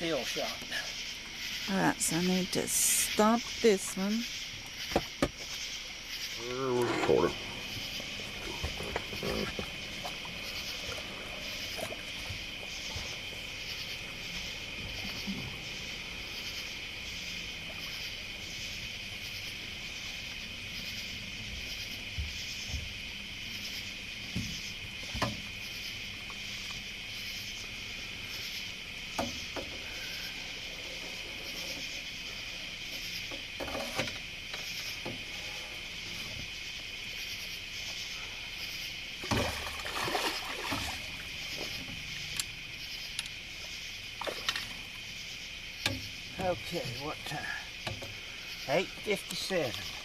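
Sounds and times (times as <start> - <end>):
night insects trilling: 0.0 - 50.0.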